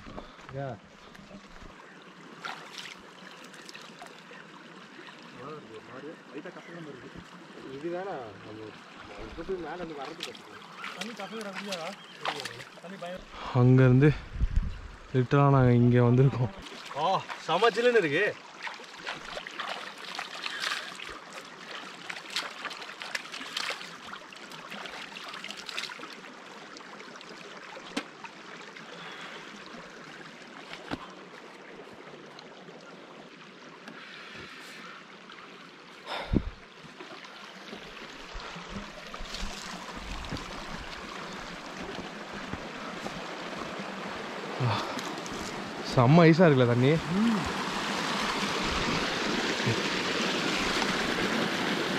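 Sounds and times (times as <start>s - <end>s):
stream water over rocks: 0.0s - 51.9s.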